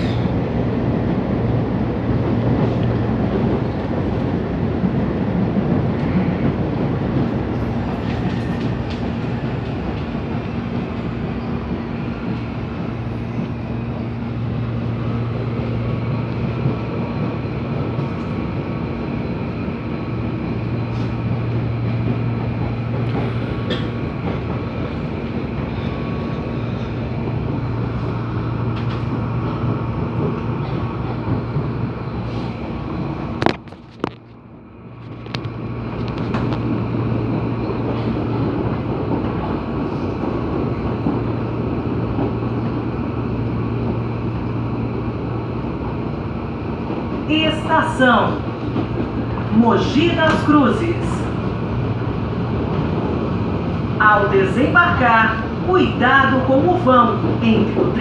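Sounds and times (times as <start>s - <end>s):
train running noise: 0.0s - 58.0s.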